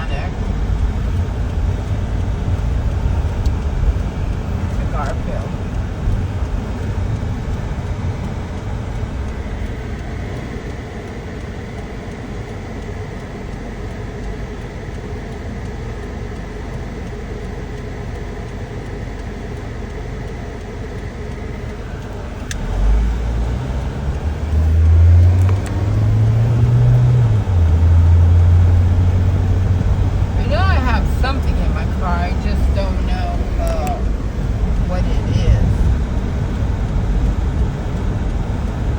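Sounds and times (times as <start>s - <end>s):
low drone rising in pitch: 0.0s - 17.8s, 18.9s - 38.9s
road and engine noise: 0.0s - 38.9s.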